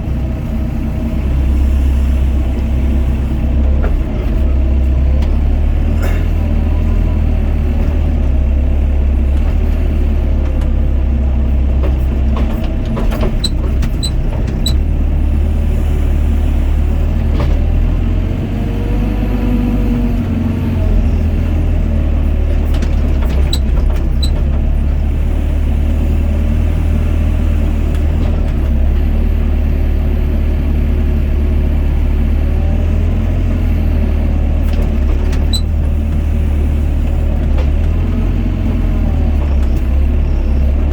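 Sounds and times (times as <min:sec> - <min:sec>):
excavator diesel engine rumbling: 0:00.0 - 0:40.9.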